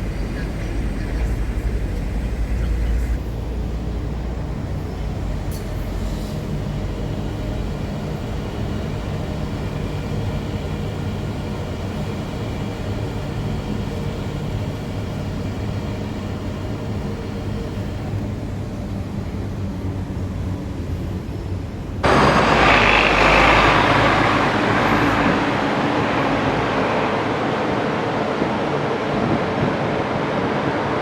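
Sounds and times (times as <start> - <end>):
metro train rumble: 0.0 - 31.0.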